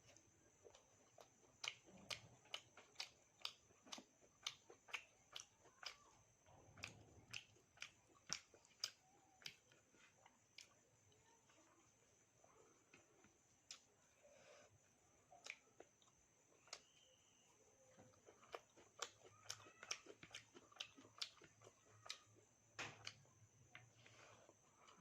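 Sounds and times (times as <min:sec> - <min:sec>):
close chewing with wet clicks: 0:00.0 - 0:14.1, 0:15.1 - 0:25.0.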